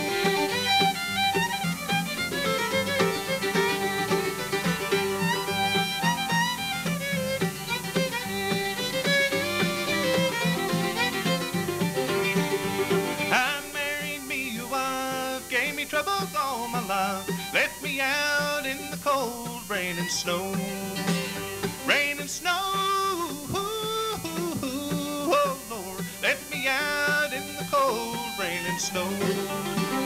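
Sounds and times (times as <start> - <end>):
acoustic guitar: 0.0 - 30.0
fiddle lead: 0.0 - 30.0
mandolin: 0.0 - 30.0.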